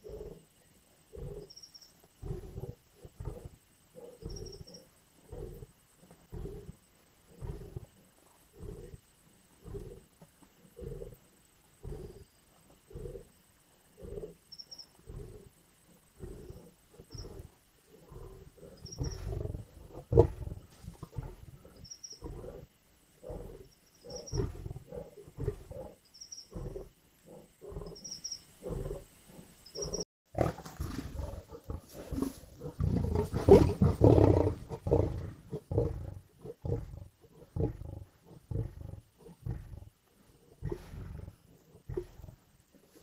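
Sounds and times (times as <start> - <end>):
lions growling and snarling: 0.0 - 1.6, 2.2 - 43.0.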